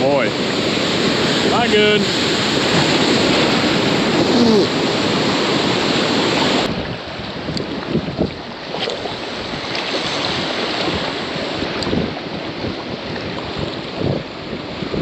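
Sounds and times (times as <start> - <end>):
ocean surf against rocks: 0.0 - 15.0
wind on microphone: 0.0 - 15.0.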